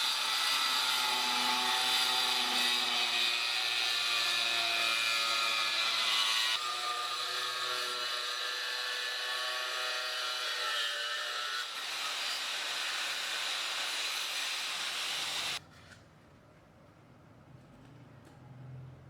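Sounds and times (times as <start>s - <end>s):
angle grinder cutting: 0.0s - 15.6s.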